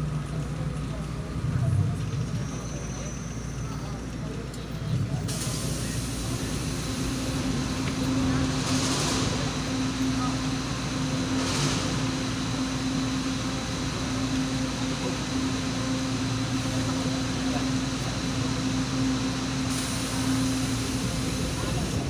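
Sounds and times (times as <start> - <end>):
train equipment hum: 0.0 - 22.0.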